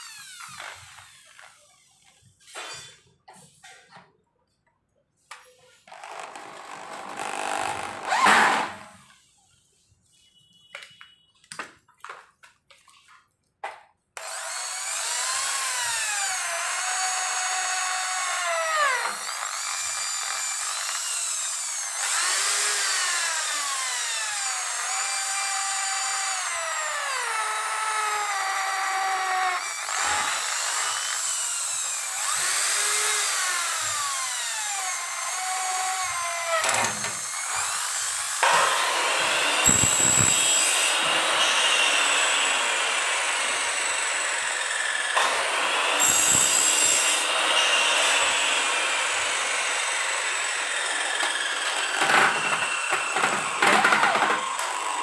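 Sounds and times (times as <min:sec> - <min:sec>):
power drill driving screws: 0:00.0 - 0:02.2, 0:05.9 - 0:09.2, 0:14.2 - 0:55.0.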